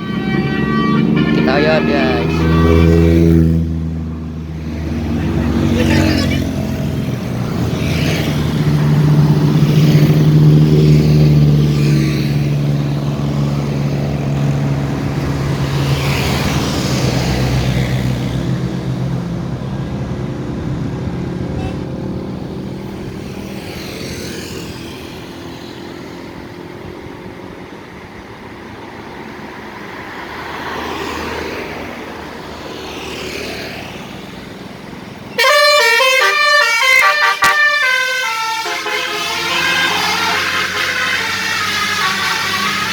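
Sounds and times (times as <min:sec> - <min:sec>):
bus engine running: 0:00.0 - 0:29.9, 0:34.0 - 0:42.9
road traffic passing: 0:00.0 - 0:42.9.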